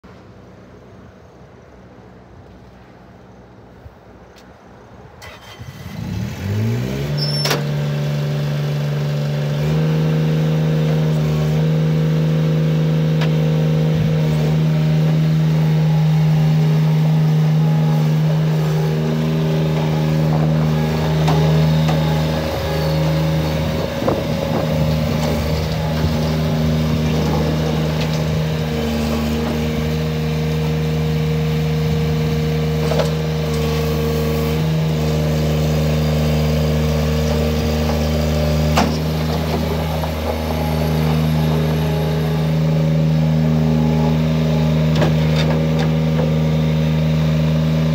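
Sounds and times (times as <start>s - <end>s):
diesel engine starting and running: 0.0s - 47.9s.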